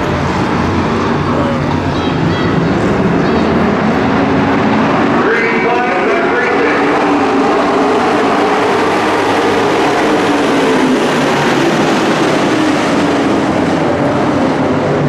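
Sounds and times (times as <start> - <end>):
race car engines at speed: 0.0 - 15.0.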